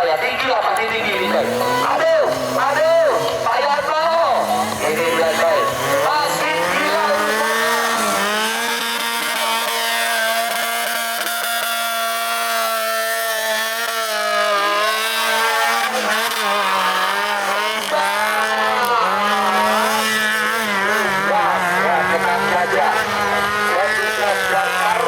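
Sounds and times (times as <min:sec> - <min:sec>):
off-road vehicle engine revving: 0:00.8 - 0:25.0.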